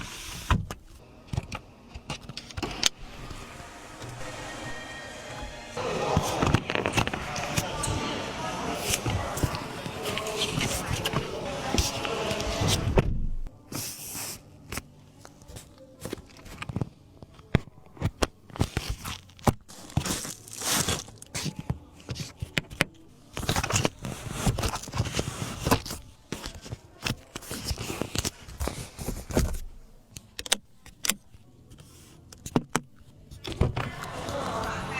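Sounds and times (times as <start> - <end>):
objects being handled: 0.0 - 34.9.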